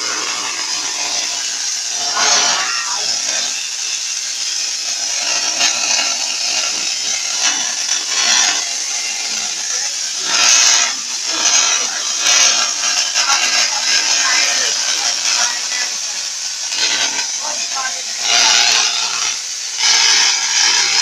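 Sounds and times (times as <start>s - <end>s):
tesla coil crackling hiss: 0.0s - 21.0s.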